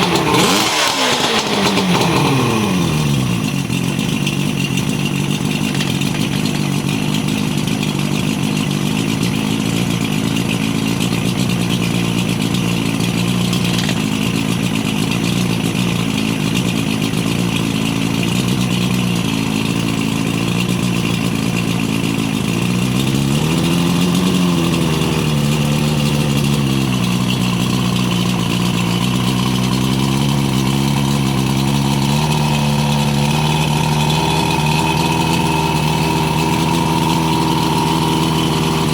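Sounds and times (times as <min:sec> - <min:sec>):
outboard engine running: 0:00.0 - 0:38.9.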